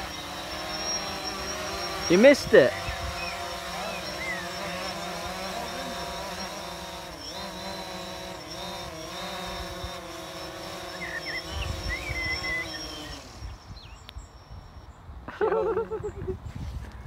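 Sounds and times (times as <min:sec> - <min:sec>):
drone propellers buzzing: 0:00.0 - 0:14.9
birds chirping: 0:00.0 - 0:16.3
wind gusts on microphone: 0:00.3 - 0:07.0, 0:07.6 - 0:17.0.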